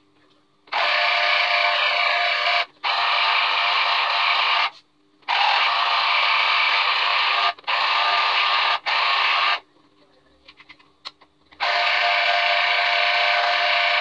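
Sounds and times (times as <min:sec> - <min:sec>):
electric juicer motor whirring: 0:00.7 - 0:09.6, 0:11.6 - 0:14.0.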